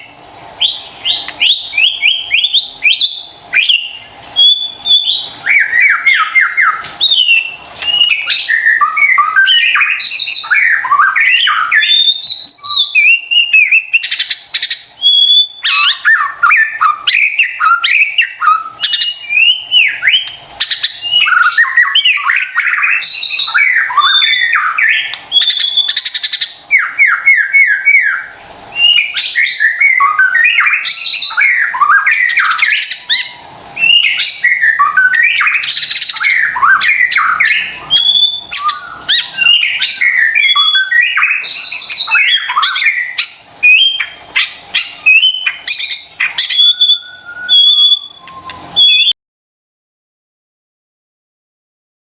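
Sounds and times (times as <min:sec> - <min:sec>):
bird singing whistles and clicks: 0:00.6 - 0:49.2.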